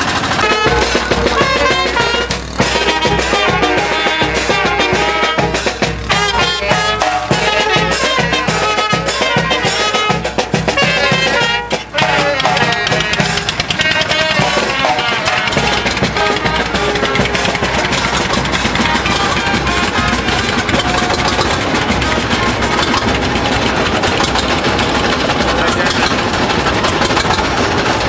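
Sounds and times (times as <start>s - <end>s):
bass drum and snare drum beat: 0.0s - 28.0s
brass band playing: 0.0s - 28.0s.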